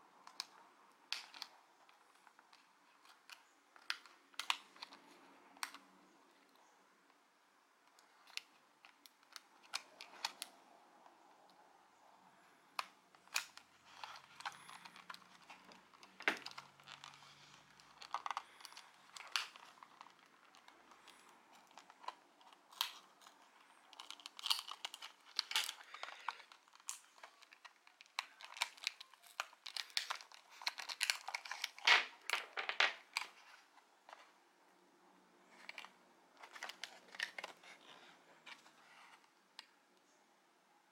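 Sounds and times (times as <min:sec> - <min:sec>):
plastic crinkling and crackling: 0:00.1 - 0:06.7, 0:07.8 - 0:11.6, 0:12.4 - 0:34.4, 0:35.5 - 0:39.8.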